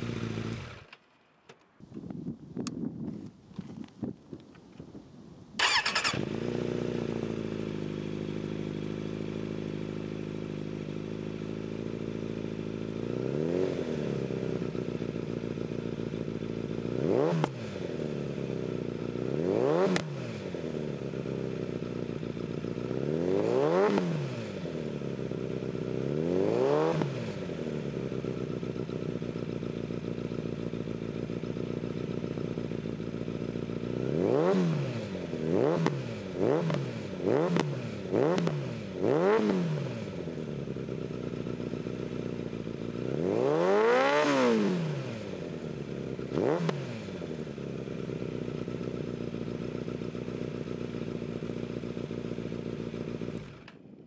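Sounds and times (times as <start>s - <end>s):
motorcycle engine starting and revving: 0.0s - 3.9s, 5.6s - 54.0s.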